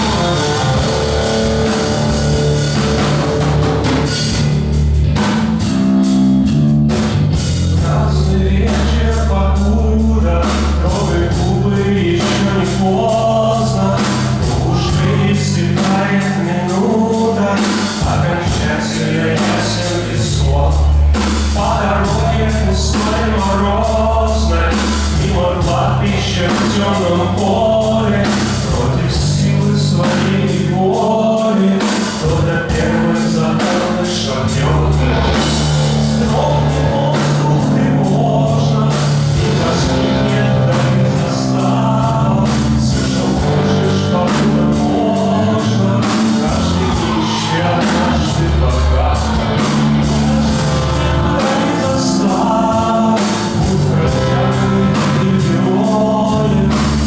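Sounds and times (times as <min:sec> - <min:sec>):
rock song with singing: 0:00.0 - 0:57.0.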